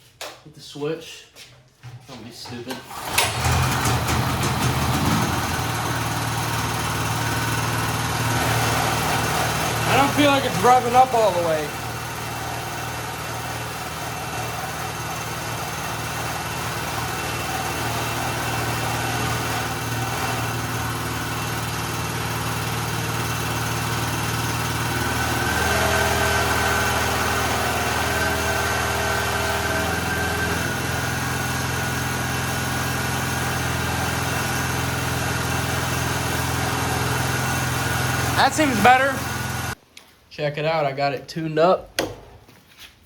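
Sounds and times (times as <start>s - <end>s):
portable generator engine running: 2.8s - 39.8s.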